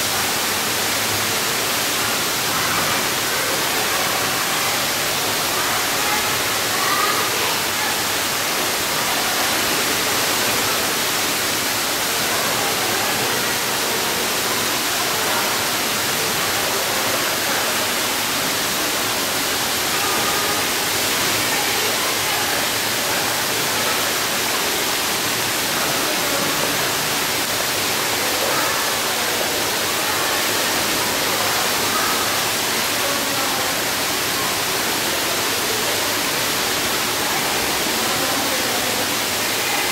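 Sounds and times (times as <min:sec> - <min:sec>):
indoor pool water rush: 0:00.0 - 0:39.9.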